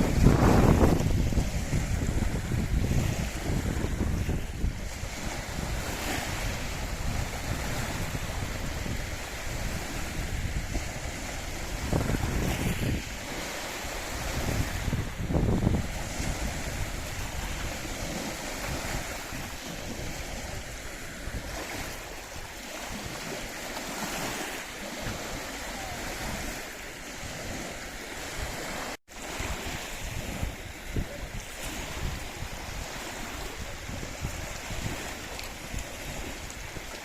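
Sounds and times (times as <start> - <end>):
waves washing: 0.0 - 37.0
wind buffeting the microphone: 0.0 - 37.0.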